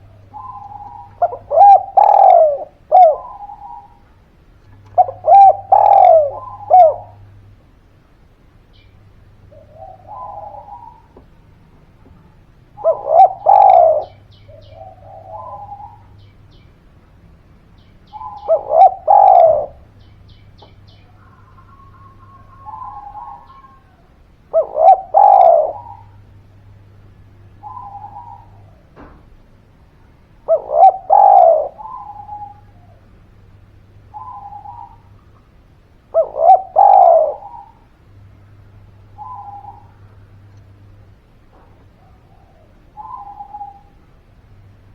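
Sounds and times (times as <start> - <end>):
dove cooing: 0.0 - 7.6, 8.8 - 16.5, 18.1 - 44.7.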